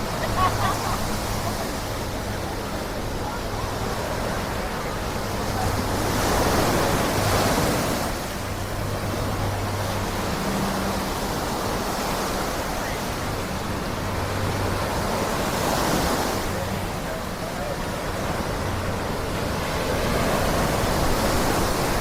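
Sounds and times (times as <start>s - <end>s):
water washing: 0.0s - 22.0s
waves breaking on beach: 0.0s - 22.0s.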